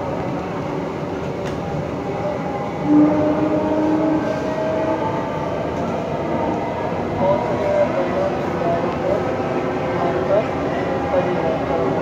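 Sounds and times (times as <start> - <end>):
metro train running: 0.0 - 12.0.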